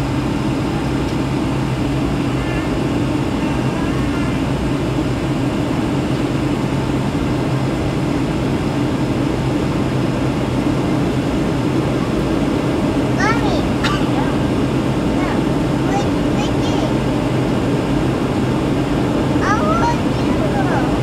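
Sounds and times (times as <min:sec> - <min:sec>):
constant low hum: 0:00.0 - 0:21.0
jet engines roaring: 0:00.0 - 0:21.0.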